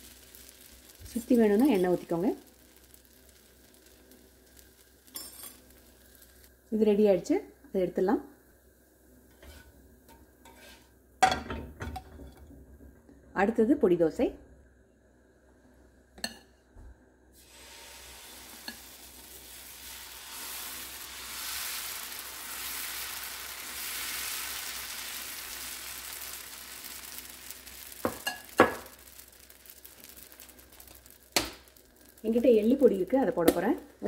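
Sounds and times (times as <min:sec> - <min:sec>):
batter sizzling on hot iron griddle: 0:00.0 - 0:12.4, 0:17.3 - 0:34.0.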